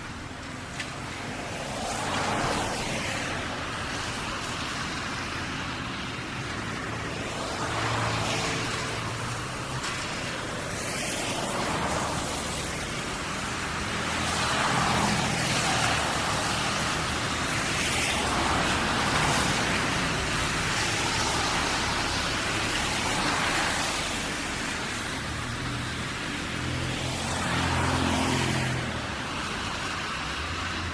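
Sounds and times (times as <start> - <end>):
car tyres hissing on wet road: 0.0 - 30.9.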